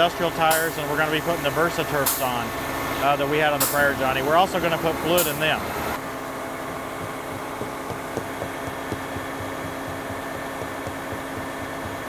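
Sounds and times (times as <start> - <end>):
pumping equipment humming: 0.0 - 12.0.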